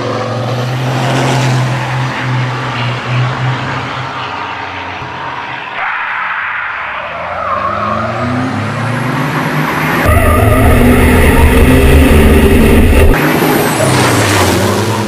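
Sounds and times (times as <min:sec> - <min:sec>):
truck diesel engine accelerating: 0:00.0 - 0:05.7, 0:07.0 - 0:15.0.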